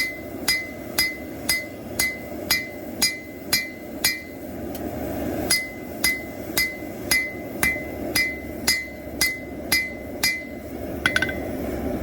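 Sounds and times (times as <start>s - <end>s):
hammer striking steel on anvil: 0.0s - 4.5s, 5.5s - 11.5s.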